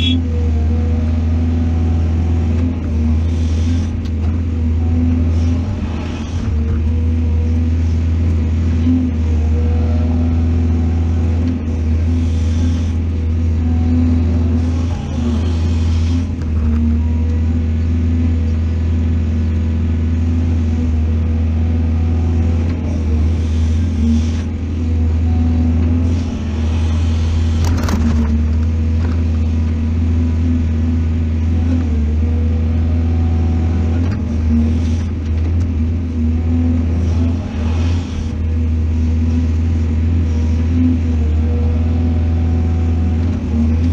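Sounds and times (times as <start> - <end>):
heavy diesel engine droning: 0.0 - 43.9.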